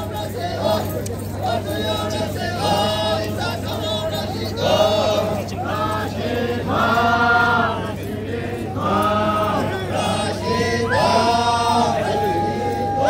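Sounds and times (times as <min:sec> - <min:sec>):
men chanting together: 0:00.0 - 0:13.0
steady low hum: 0:00.0 - 0:13.0.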